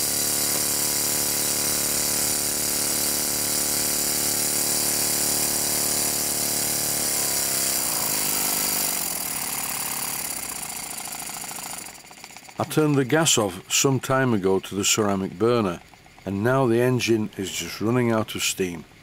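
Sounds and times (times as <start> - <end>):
model steam engine running: 0.0 - 16.3.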